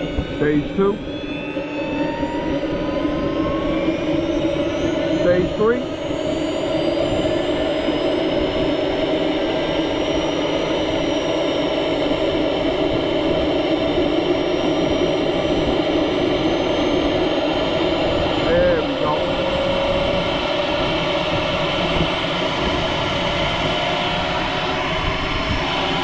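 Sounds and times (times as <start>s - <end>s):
gas turbine rushing: 0.0s - 26.0s
rising turbine whine: 0.0s - 26.0s.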